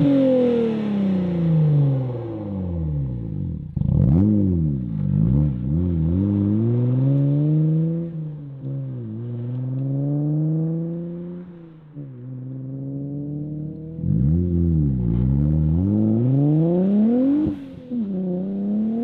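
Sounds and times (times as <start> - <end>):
car engine revving: 0.0 - 11.5, 12.1 - 19.0.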